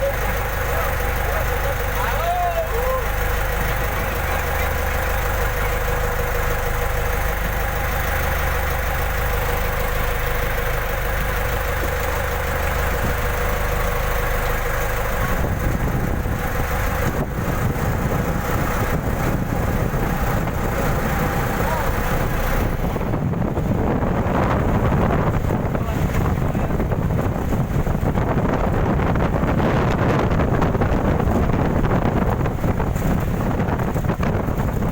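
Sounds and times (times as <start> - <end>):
boat engine running: 0.0 - 34.9
rough low rumble: 0.0 - 34.9.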